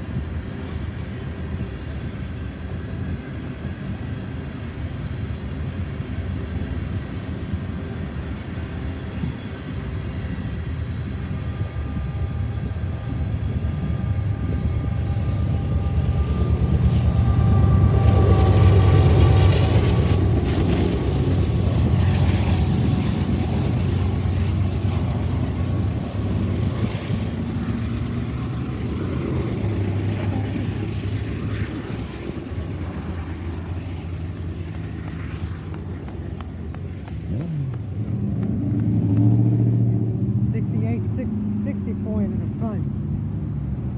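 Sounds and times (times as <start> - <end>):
diesel locomotive drone: 0.0 - 43.9
freight cars rumbling: 0.0 - 43.9
vehicle engine: 0.0 - 43.9.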